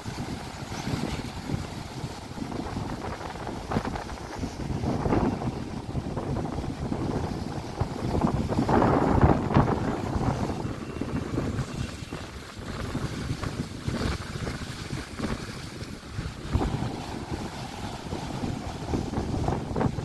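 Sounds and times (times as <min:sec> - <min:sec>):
waves breaking over rocks: 0:00.0 - 0:20.0
wind noise on microphone: 0:00.0 - 0:20.0.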